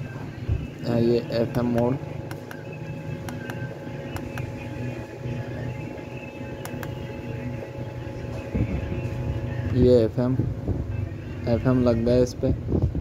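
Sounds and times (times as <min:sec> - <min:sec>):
faint steady whine: 0:00.0 - 0:13.0
steady low hum: 0:00.0 - 0:13.0.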